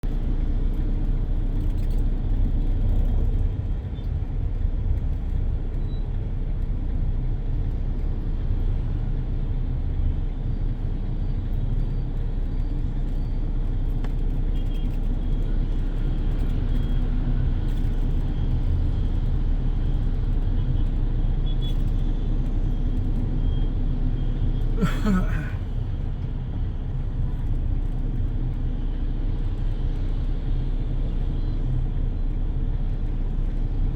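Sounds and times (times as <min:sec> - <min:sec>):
motorbike and street traffic: 0:00.0 - 0:33.9.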